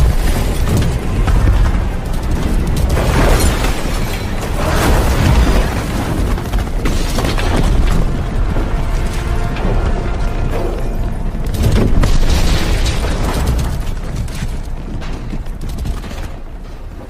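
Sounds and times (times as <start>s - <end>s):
deep rumble: 0.0s - 17.0s.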